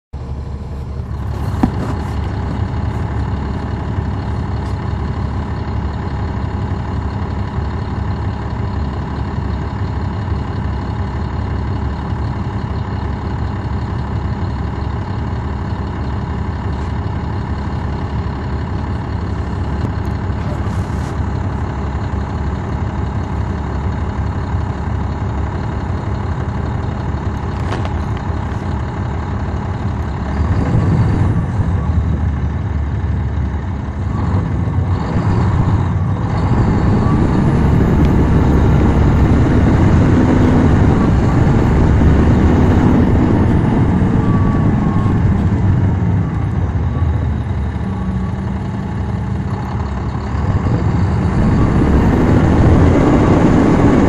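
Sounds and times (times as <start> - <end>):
bus diesel engine rumble: 0.1 - 54.0.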